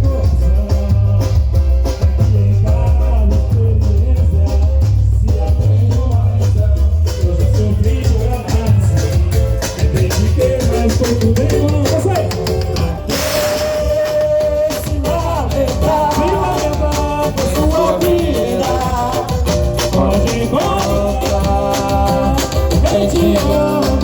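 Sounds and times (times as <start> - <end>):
samba music with percussion: 0.0 - 24.0.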